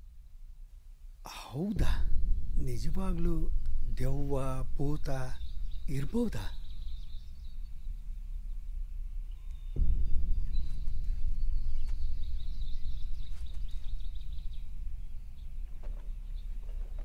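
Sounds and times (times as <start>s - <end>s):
steady low rumble: 0.0s - 17.0s
birds chirping: 1.3s - 17.0s.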